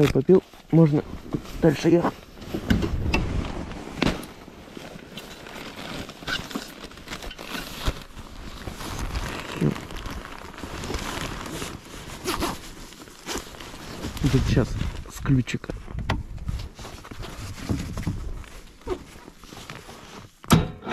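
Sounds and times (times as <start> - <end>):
clothing rustling and crinkling: 0.0 - 20.5.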